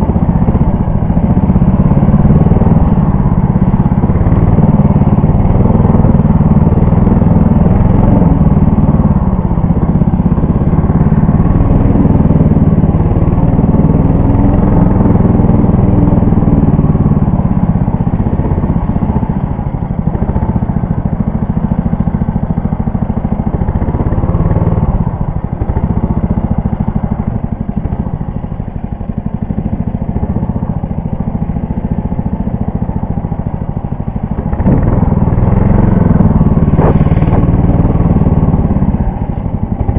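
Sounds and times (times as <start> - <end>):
snow tow engine running: 0.0 - 39.9.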